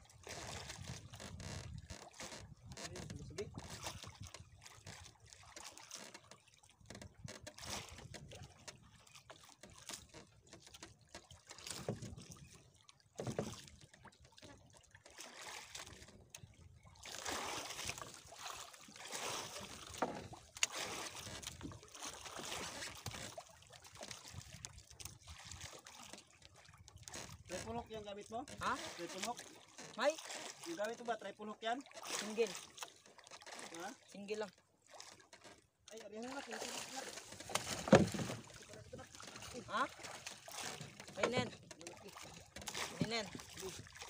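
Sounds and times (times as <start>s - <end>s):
water lapping against boat hull: 0.0s - 44.0s.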